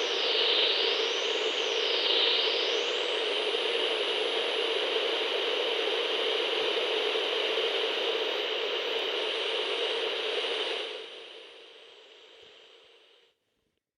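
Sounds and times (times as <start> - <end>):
radio static hiss: 0.0 - 13.3.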